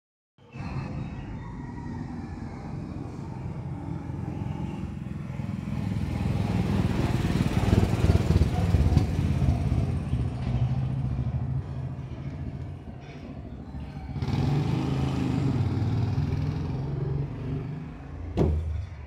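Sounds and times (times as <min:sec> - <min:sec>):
vehicle engine rumble passing: 0:00.4 - 0:19.0.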